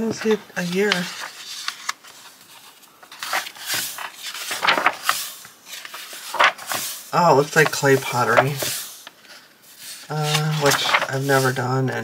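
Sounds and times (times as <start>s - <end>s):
book pages rustling: 0.0s - 12.0s.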